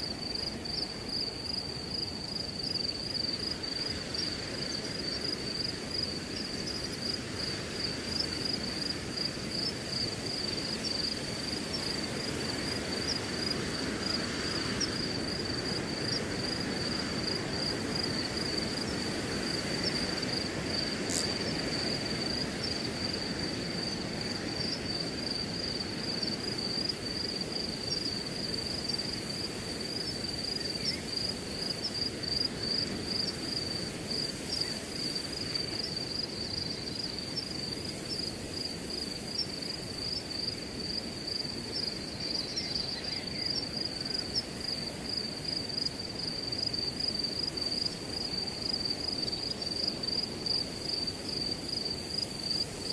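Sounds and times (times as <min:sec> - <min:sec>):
crickets chirping: 0:00.0 - 0:52.9
wind in grass: 0:00.0 - 0:52.9.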